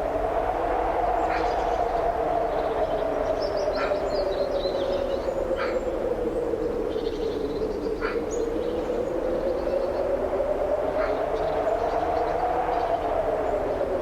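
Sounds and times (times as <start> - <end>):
strong wind with hollow tone: 0.0 - 14.0.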